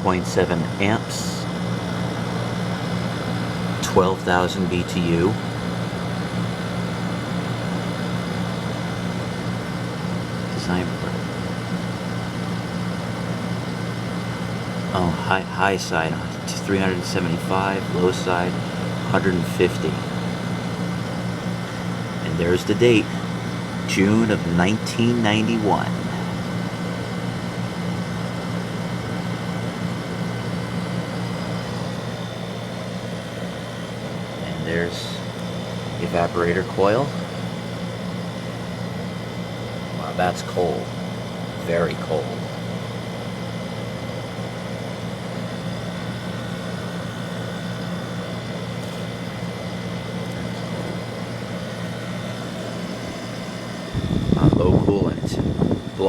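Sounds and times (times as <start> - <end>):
air conditioner motor hum: 0.0 - 56.0
rush of fan air: 0.0 - 56.0.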